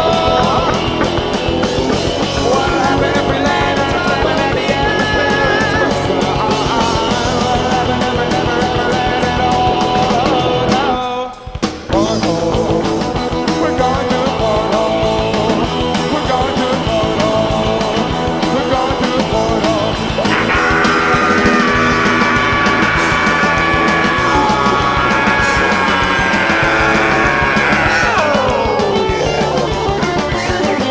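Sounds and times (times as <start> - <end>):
rock band playing live: 0.0 - 30.9.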